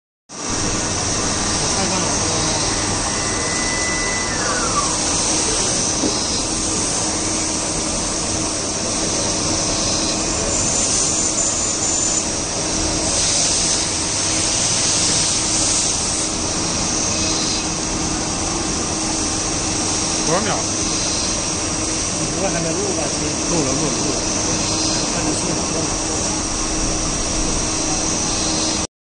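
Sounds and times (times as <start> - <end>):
high machine whine: 0.3 - 28.9
coolant spray hiss: 0.4 - 28.8
lathe running hum: 0.4 - 28.8.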